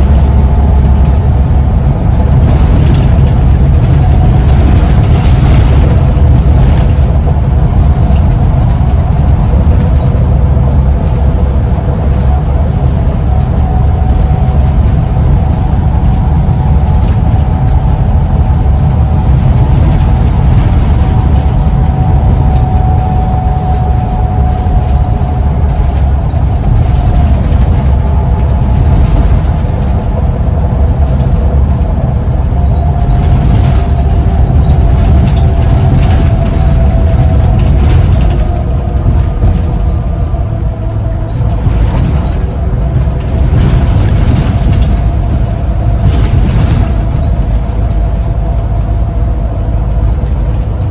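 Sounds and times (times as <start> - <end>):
bus engine drone: 0.0 - 50.9.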